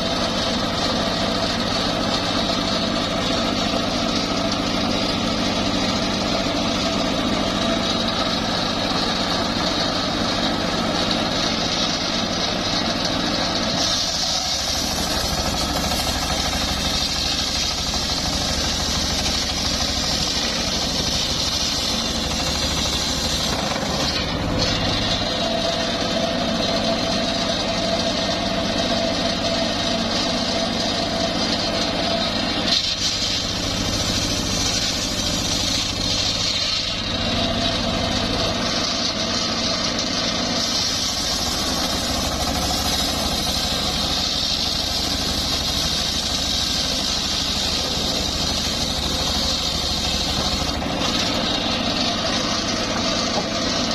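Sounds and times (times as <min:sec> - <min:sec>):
circular sawmill sawing wood: 0:00.0 - 0:53.9.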